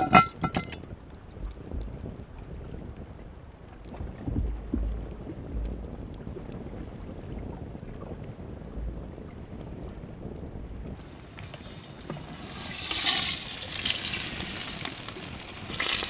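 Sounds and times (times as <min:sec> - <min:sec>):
wood fire crackling: 0:00.0 - 0:07.0, 0:08.7 - 0:16.0
wind buffeting microphone: 0:00.0 - 0:16.0.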